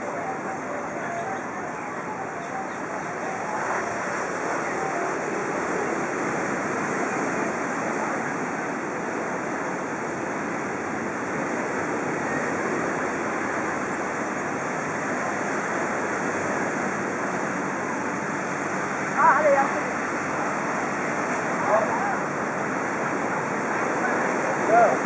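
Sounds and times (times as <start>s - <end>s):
steady rushing outdoor noise: 0.0s - 25.0s.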